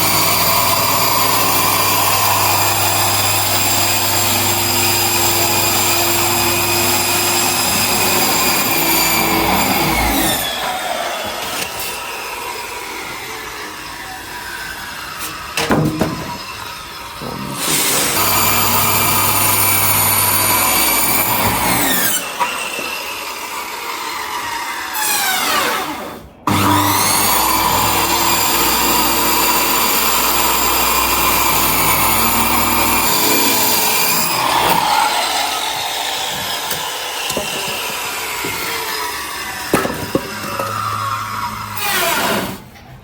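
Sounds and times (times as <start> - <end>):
high-speed electric power tool: 0.0 - 15.6, 16.6 - 42.6.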